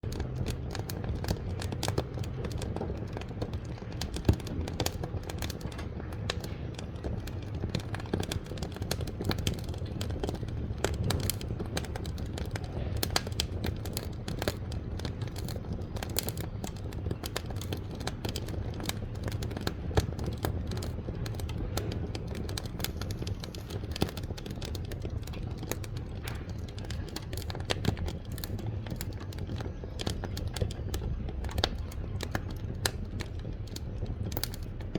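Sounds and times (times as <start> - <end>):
burning wood crackling and popping: 0.0 - 34.9
fire rumbling: 0.0 - 34.9.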